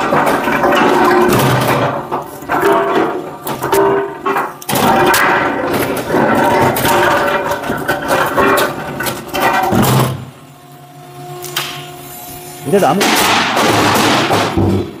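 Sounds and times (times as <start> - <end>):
wood knocks and clatter: 0.0 - 10.2, 13.0 - 15.0
log splitter machine noise: 0.0 - 15.0.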